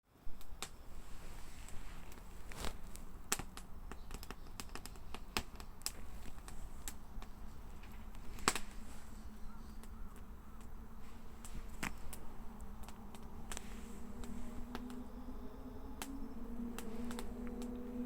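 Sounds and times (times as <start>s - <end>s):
wood fire crackling and popping: 0.3s - 18.0s.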